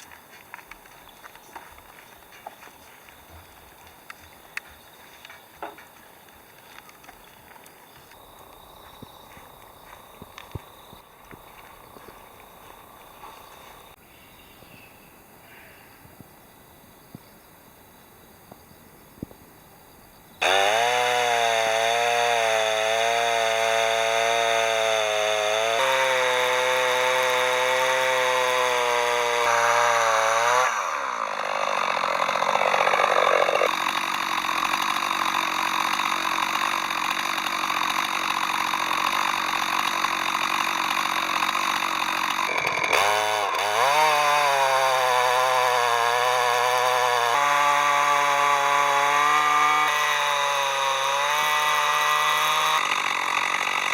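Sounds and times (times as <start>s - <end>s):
chainsaw milling a log: 0.0s - 14.0s, 20.4s - 53.9s.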